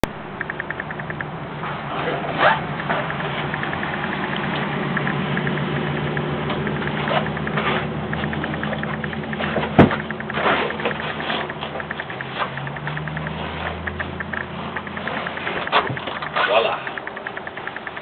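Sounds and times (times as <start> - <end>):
sharp click: 0.0 - 1.3, 2.7 - 18.0.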